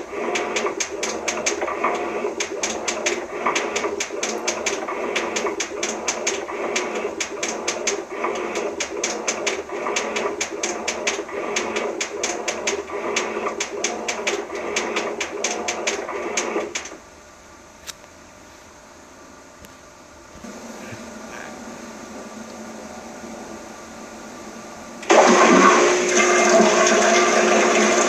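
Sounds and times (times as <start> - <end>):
low hum: 0.0 - 28.0
washing machine whirring and clattering: 0.0 - 28.0.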